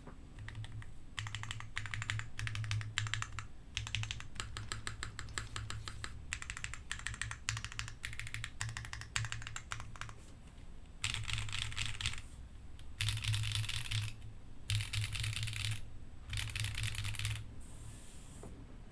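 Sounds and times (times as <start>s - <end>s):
mechanical keyboard typing: 0.4s - 10.2s, 11.0s - 12.2s, 12.8s - 17.5s.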